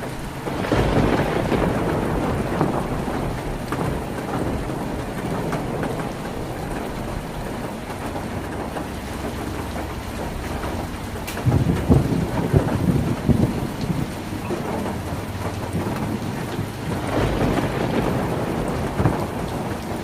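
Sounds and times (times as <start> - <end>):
heavy rain on a tin roof: 0.0 - 20.0
thunder rumble: 0.0 - 20.0.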